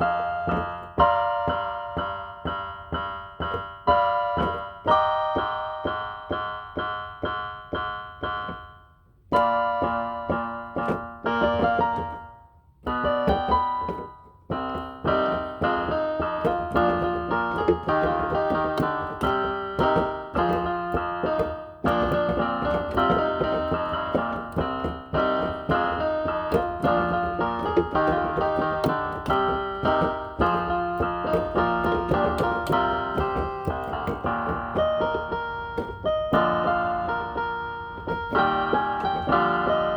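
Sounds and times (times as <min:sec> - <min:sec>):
electronic keyboard piano playing: 0:00.0 - 0:39.9.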